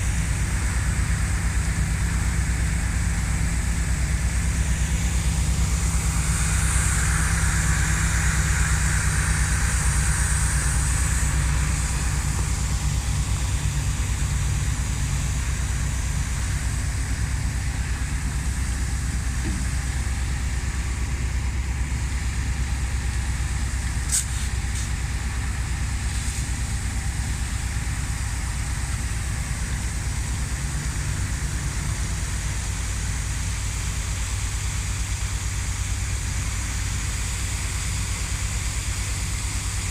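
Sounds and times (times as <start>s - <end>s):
hiss: 0.0s - 39.9s
large engine droning: 0.0s - 39.9s.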